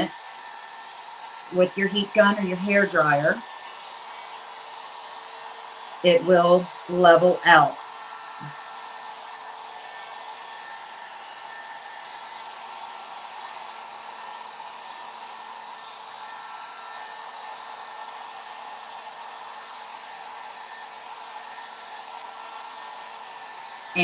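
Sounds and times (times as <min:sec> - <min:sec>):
heat gun blowing hiss: 0:00.0 - 0:24.0.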